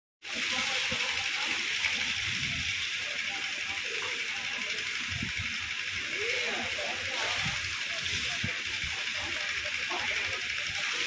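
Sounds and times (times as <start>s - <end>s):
water jet hissing and spattering on stone: 0.2s - 11.0s.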